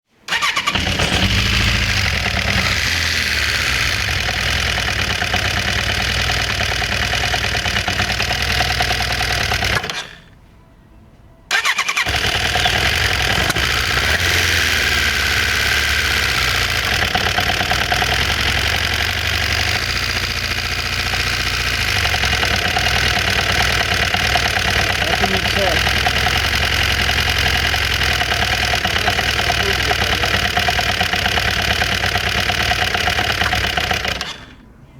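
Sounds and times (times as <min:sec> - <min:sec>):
motorcycle engine knocking: 0:00.4 - 0:09.9, 0:12.0 - 0:34.5.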